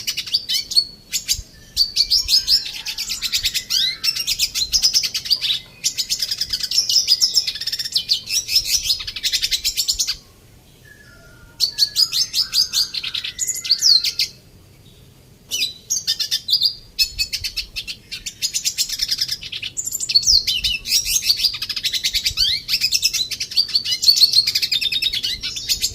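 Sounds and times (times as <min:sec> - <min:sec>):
bird twittering: 0:00.0 - 0:10.2, 0:10.8 - 0:25.9.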